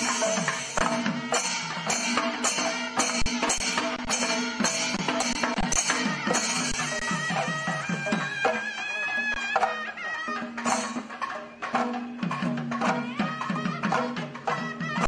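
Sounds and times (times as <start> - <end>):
fast hand drum rhythm: 0.0 - 15.0.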